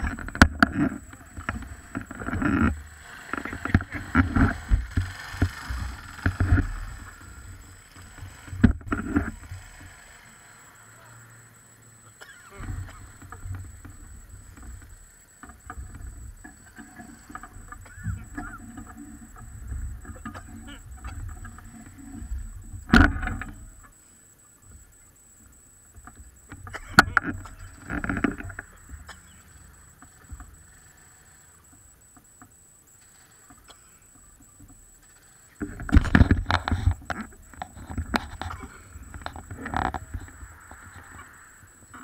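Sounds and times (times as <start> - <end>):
distant small engine drone: 0.0 - 42.0.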